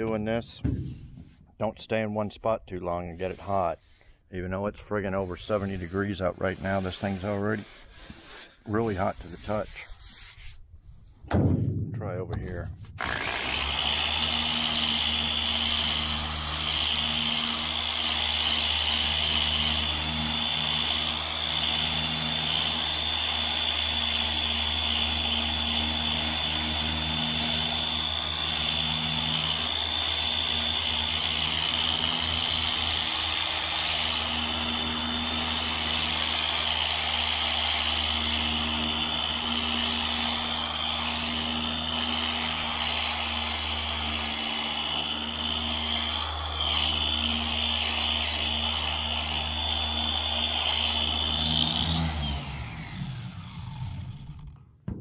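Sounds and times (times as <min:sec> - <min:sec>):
power sander whining on metal: 0:03.1 - 0:10.5, 0:12.9 - 0:54.7.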